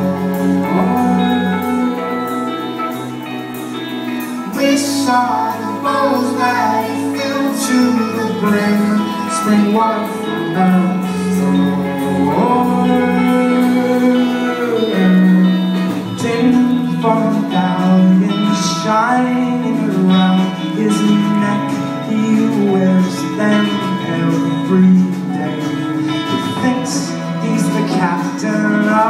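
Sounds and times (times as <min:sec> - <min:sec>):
folk-pop band playing live: 0:00.0 - 0:29.0.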